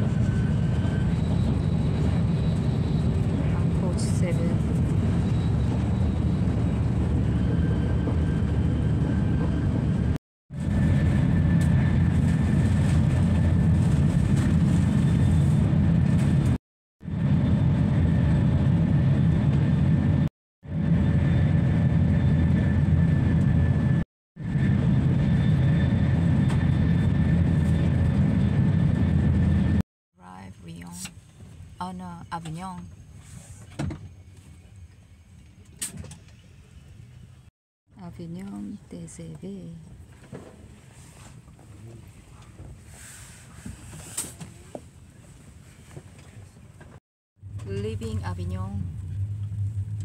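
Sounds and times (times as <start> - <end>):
train cabin rumble and rush: 0.0 - 37.4, 38.0 - 50.0.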